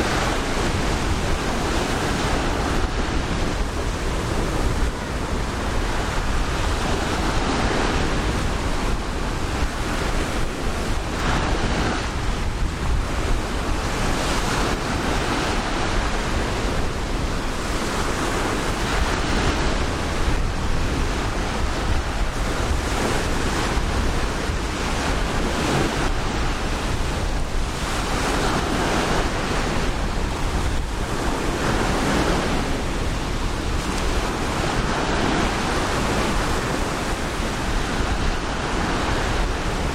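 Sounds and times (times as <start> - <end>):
waves breaking on beach: 0.0 - 39.9
wind rumble on microphone: 0.0 - 39.9.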